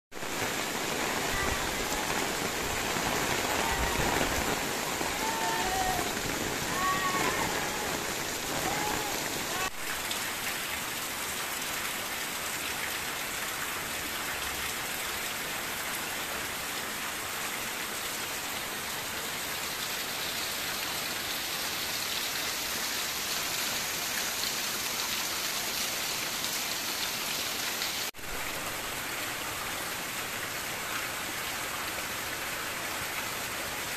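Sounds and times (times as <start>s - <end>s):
rain pattering: 0.1s - 33.9s.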